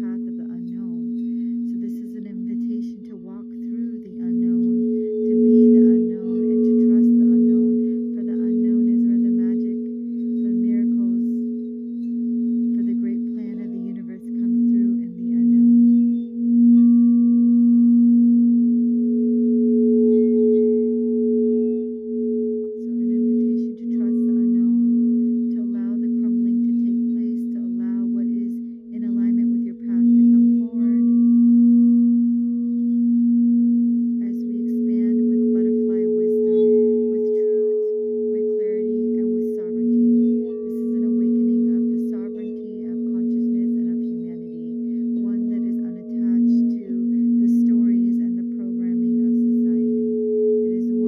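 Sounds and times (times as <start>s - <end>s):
singing bowls ringing: 0.0s - 51.0s.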